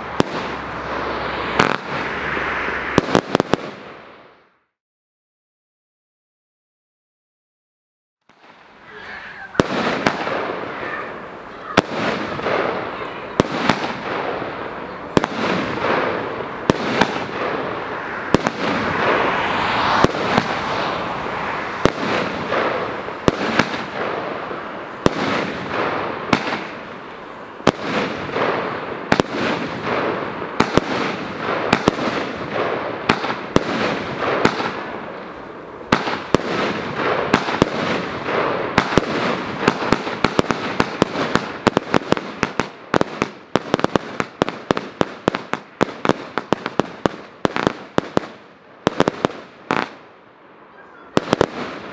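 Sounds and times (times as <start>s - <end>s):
firework bangs: 0.0s - 4.6s, 8.3s - 51.9s.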